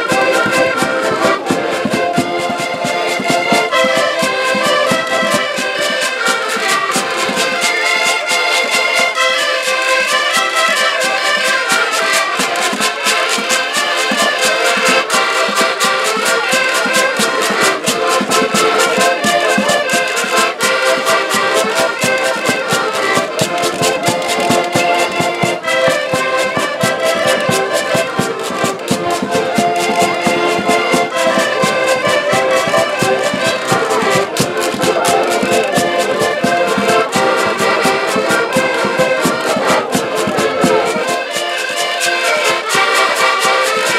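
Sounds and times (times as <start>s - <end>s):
button accordions playing folk tune: 0.0s - 43.9s.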